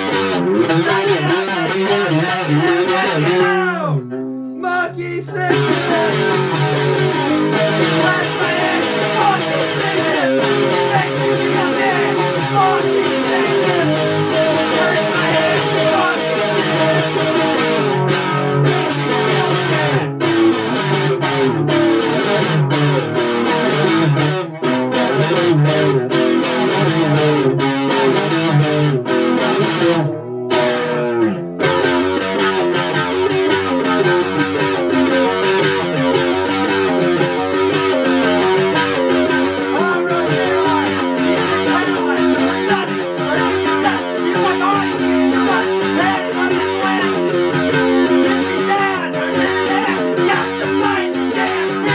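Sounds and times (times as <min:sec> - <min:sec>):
electric guitar chords and riffs: 0:00.0 - 0:51.9.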